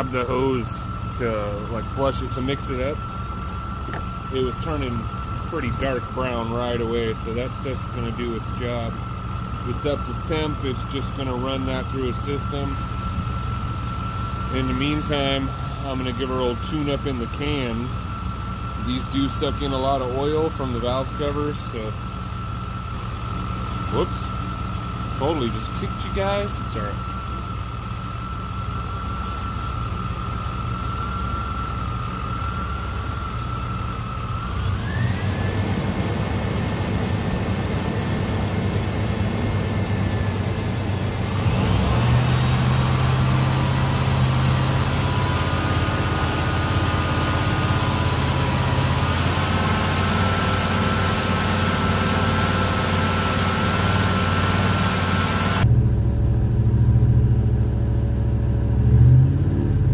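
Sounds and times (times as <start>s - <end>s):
thin steady whine: 0.0s - 58.7s
car engine running: 0.0s - 59.9s.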